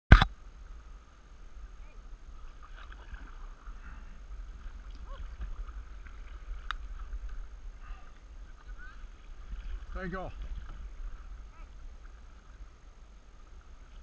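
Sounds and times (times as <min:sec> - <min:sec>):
paddle strokes in water: 0:00.6 - 0:14.0.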